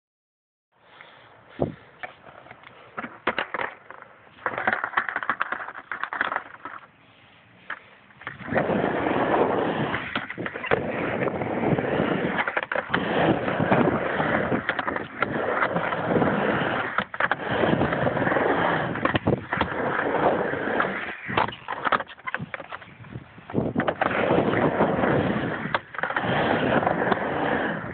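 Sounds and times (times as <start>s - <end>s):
skateboard wheels rolling on pavement: 0.8s - 27.9s.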